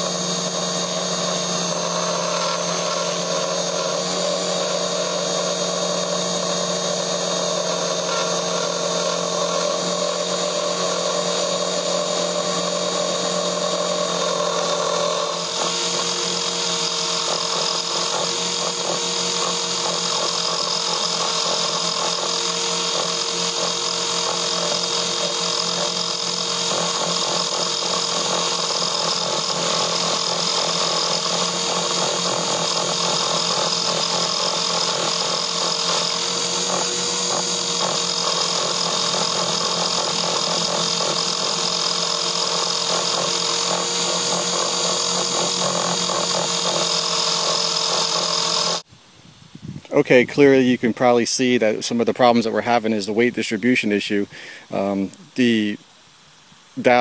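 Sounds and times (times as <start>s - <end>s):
rc helicopter motor whining: 0.0s - 48.9s.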